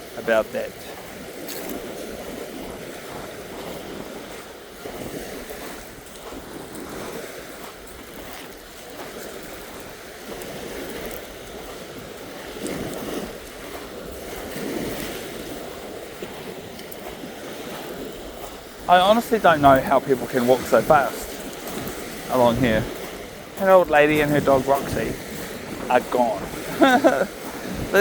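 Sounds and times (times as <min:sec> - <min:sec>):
small waves on rocky shore: 0:00.0 - 0:28.0
wind rumbling on microphone: 0:00.0 - 0:28.0.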